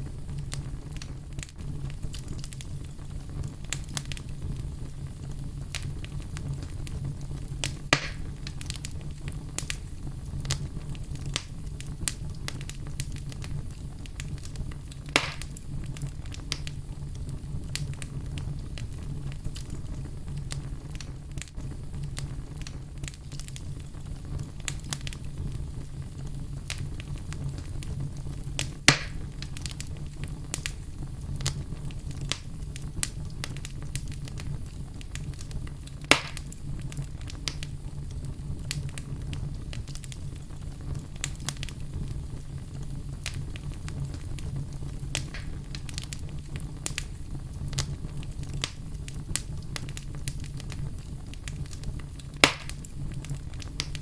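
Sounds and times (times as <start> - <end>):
wood fire burning: 0.0 - 54.0.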